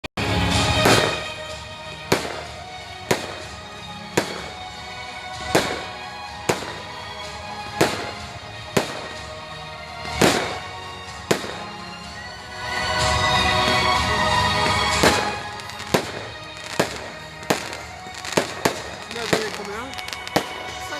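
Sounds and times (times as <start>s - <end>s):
fireworks bangs: 0.2s - 20.9s
music playing: 0.2s - 20.9s.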